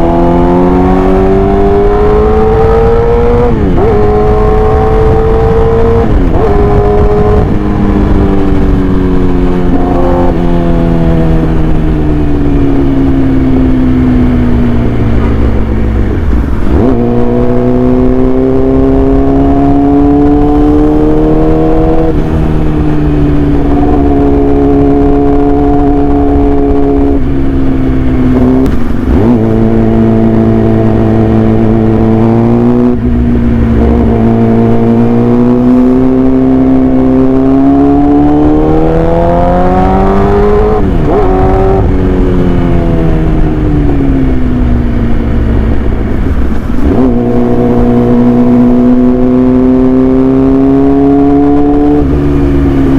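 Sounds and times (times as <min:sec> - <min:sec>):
motorcycle engine shifting gears: 0:00.0 - 0:52.9.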